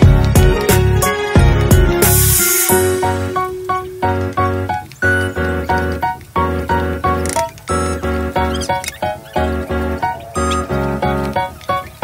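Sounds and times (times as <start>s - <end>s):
bouncy tune with short chords: 0.0s - 12.0s.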